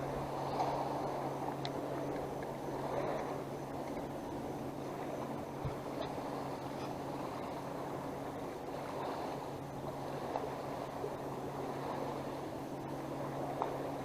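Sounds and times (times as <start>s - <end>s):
steady low hum: 0.0s - 14.0s
water lapping against boat hull: 0.0s - 14.0s
wind: 0.0s - 14.0s.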